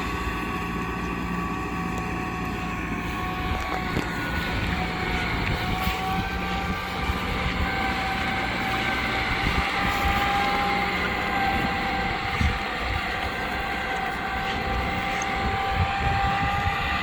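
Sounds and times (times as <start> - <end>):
high whine: 0.0 - 17.0
tractor diesel engine running: 0.0 - 17.0.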